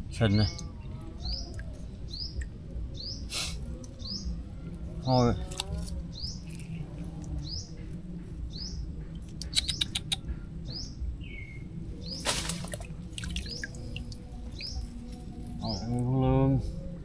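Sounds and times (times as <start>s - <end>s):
bird chirping: 0.3s - 16.2s.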